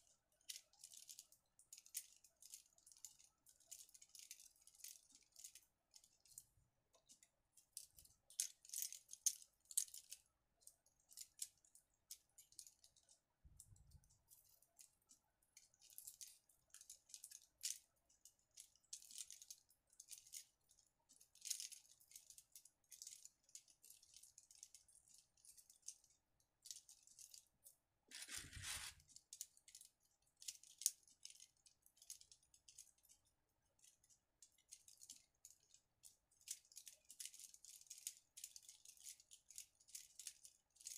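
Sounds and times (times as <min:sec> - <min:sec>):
plastic flowers rustling and clicking: 0:00.0 - 0:40.9.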